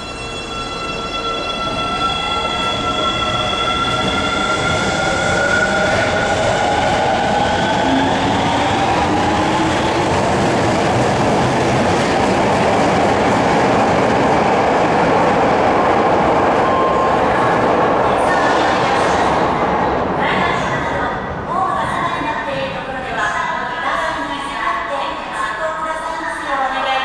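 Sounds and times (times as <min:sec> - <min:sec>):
train wheel and rail noise: 0:00.0 - 0:27.0.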